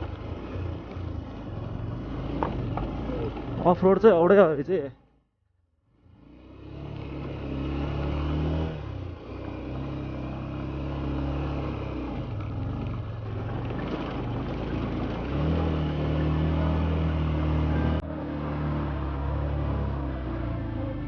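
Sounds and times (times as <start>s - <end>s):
motorcycle engine revving: 0.0s - 4.0s, 6.0s - 21.0s.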